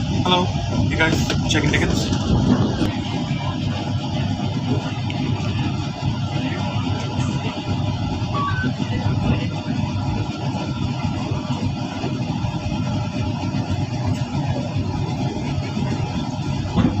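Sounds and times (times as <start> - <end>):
train rumble inside coach: 0.0 - 17.0.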